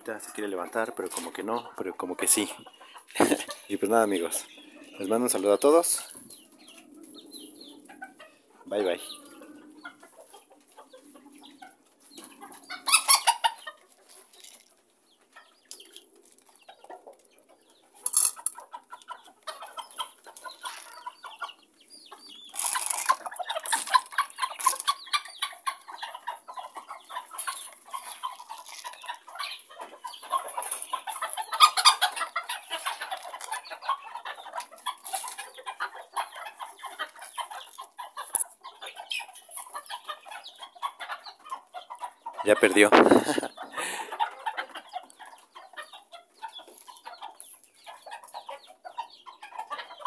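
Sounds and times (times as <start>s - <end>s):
hens clucking: 0.0s - 50.0s.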